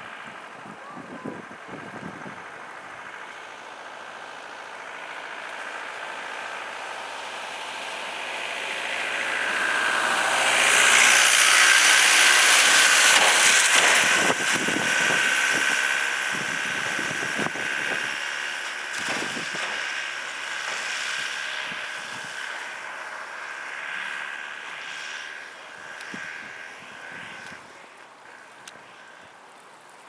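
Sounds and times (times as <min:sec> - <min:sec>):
high fan whine: 0:00.0 - 0:30.0
jet engines on approach: 0:00.0 - 0:30.0.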